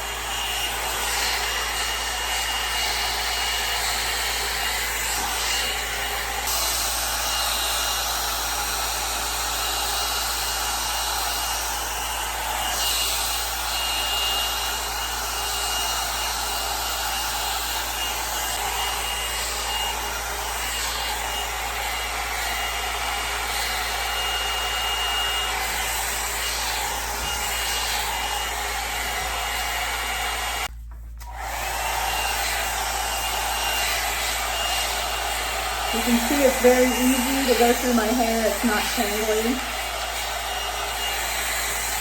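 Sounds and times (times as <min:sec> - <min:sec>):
hair dryer brush running: 0:00.0 - 0:42.0.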